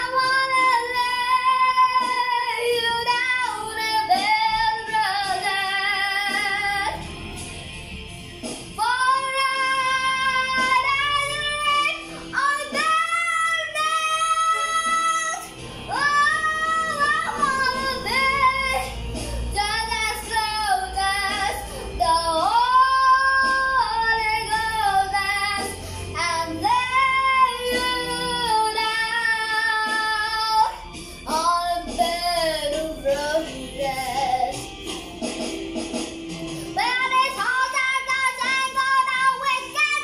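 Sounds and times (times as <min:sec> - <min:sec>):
girl singing slow song: 0:00.0 - 0:07.5, 0:08.6 - 0:35.2, 0:36.4 - 0:40.0
instrumental backing music: 0:00.0 - 0:40.0.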